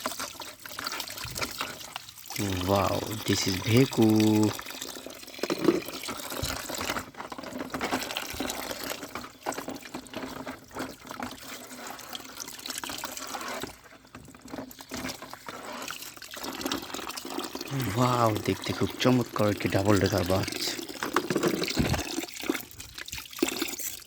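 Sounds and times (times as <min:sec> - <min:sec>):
water running and splashing: 0:00.0 - 0:24.0.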